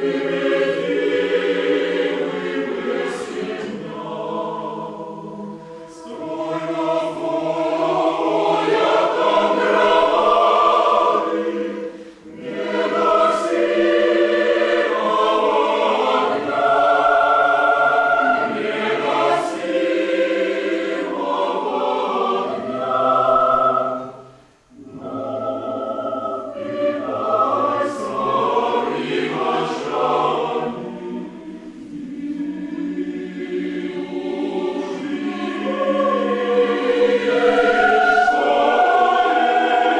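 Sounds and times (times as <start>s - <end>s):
mixed choir singing unaccompanied: 0.0s - 39.9s.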